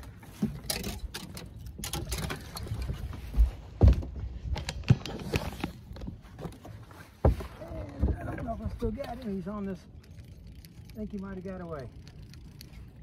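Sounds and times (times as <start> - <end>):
fishing gear clicking and thumping: 0.0 - 13.0
person moving in boat: 0.0 - 13.0.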